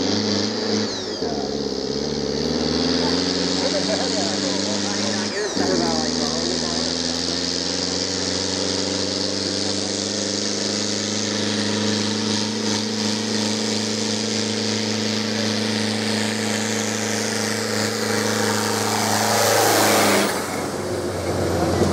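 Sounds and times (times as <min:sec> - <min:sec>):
tractor diesel engine working hard: 0:00.0 - 0:21.9.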